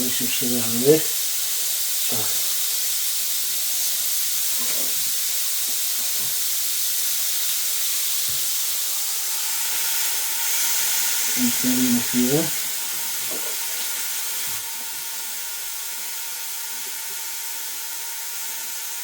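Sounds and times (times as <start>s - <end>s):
chicken strips sizzling in a pan: 0.0s - 19.0s.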